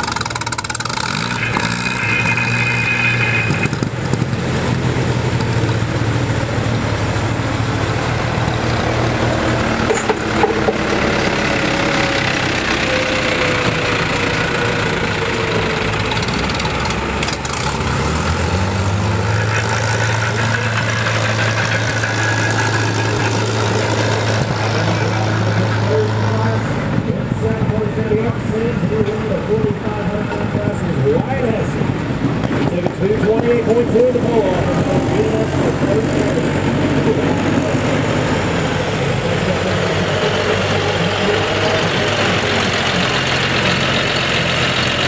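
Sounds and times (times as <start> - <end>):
tractor driving past: 0.0 - 45.0
tractor engines idling: 0.0 - 45.0.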